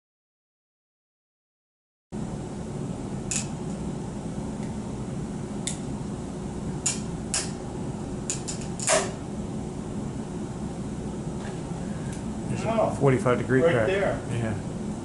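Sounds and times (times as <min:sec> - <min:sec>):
steady low hum: 0:02.2 - 0:15.0.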